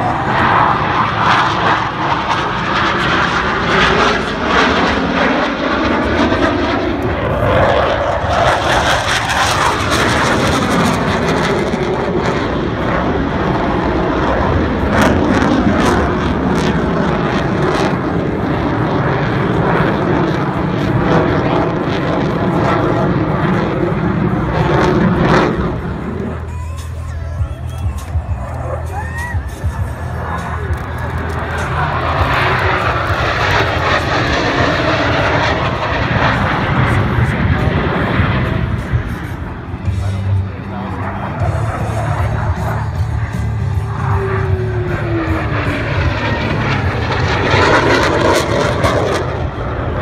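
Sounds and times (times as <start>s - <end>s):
jet engines flying overhead: 0.0s - 50.0s.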